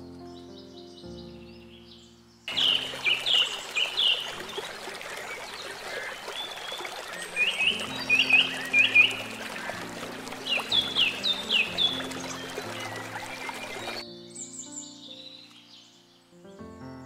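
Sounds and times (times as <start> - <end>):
soft music: 0.0 - 5.9, 7.2 - 17.0
birds chirping: 0.0 - 16.6.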